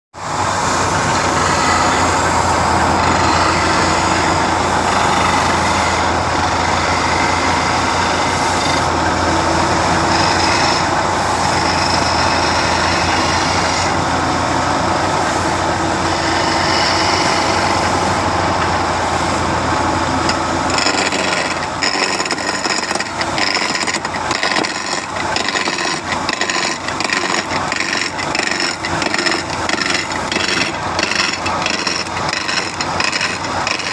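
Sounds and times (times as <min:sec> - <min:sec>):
woodworking machine humming: 0:00.2 - 0:33.9.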